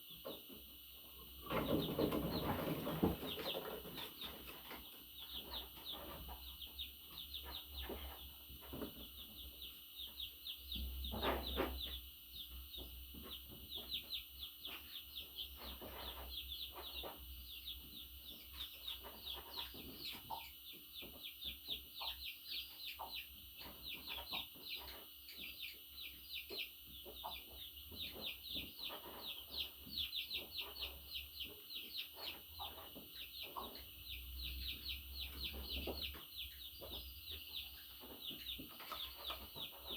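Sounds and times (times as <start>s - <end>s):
budgerigars chirping: 4.6s - 39.9s.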